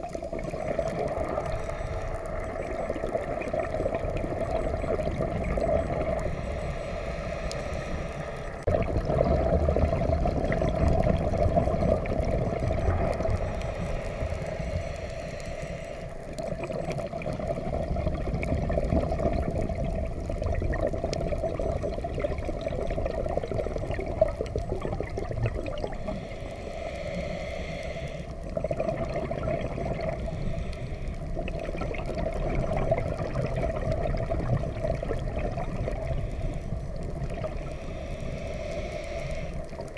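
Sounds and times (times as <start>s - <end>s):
diver's exhaled bubbles gurgling: 0.0s - 7.6s, 8.4s - 14.8s, 16.2s - 26.3s, 28.3s - 38.6s.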